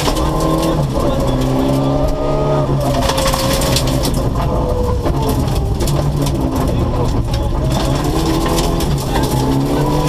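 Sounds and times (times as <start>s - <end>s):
gravel crackling against car: 0.0s - 10.0s
rally car engine at speed: 0.0s - 10.0s.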